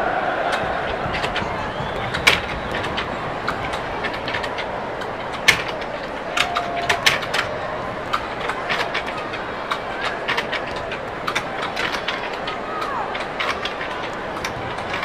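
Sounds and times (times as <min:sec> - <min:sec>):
marbles rolling down track: 0:00.6 - 0:15.0.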